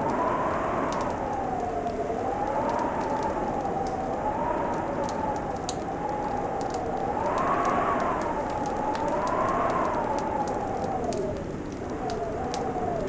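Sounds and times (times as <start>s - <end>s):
wind howling: 0.0s - 13.0s.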